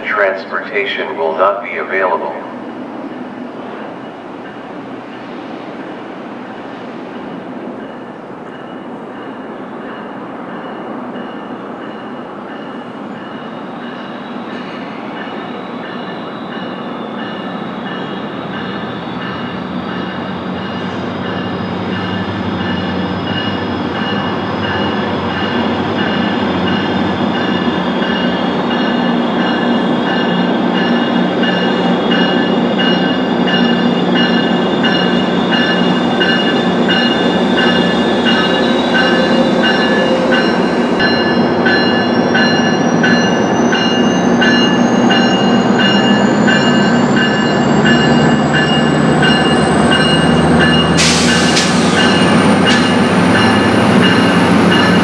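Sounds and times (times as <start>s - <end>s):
train rumble: 0.0s - 55.0s
even bell ringing: 8.6s - 55.0s.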